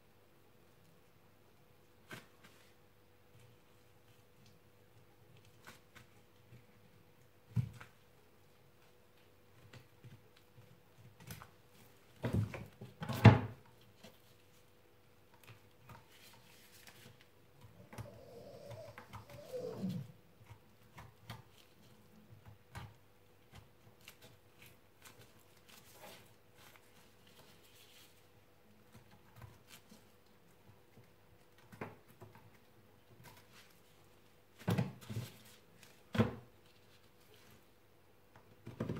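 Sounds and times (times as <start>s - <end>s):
faint steady hum: 0.0s - 31.7s.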